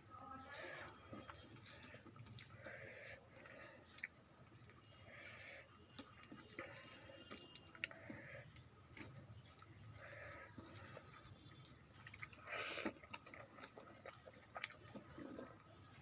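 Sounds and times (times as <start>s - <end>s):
wet chewing sounds: 0.0s - 16.0s.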